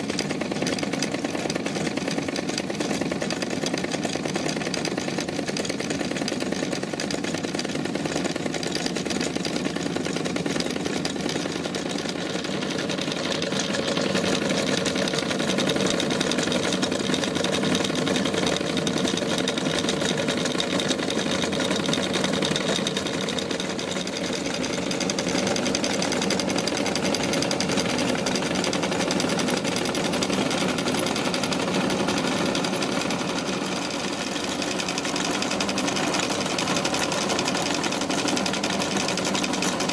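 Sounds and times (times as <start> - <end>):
toy machine shop clattering: 0.0 - 39.9.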